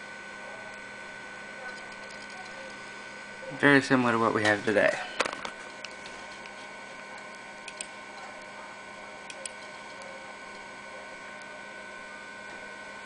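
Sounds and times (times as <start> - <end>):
computer humming and whining: 0.0 - 13.0.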